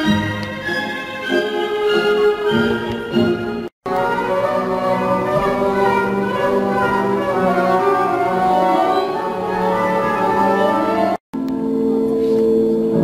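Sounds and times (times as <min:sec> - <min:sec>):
orchestral strings sustained notes: 0:00.0 - 0:13.0.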